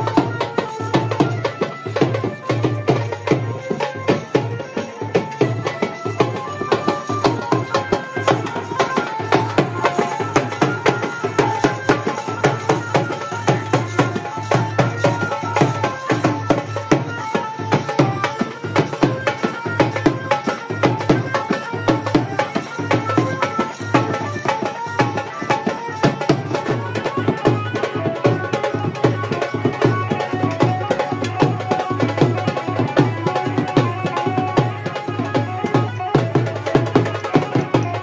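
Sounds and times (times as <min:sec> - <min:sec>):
folk melody: 0:00.0 - 0:38.0
hand drum fast rhythm: 0:00.0 - 0:38.0
other percussion: 0:00.0 - 0:38.0.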